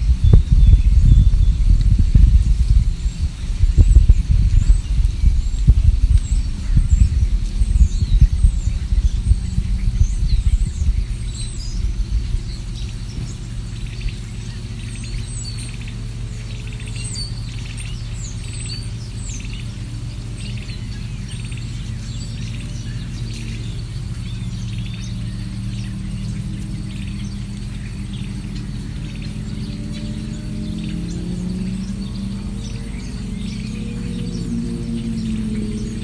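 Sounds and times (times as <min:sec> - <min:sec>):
birds chirping and calling: 0:00.0 - 0:36.0
steady low hum: 0:00.0 - 0:36.0.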